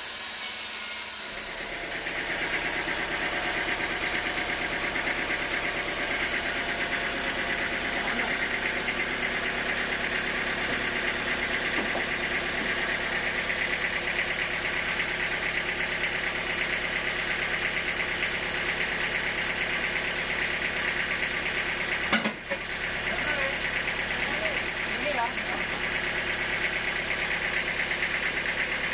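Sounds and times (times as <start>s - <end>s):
engine running with fast pulsing: 0.0s - 22.1s, 22.8s - 28.9s.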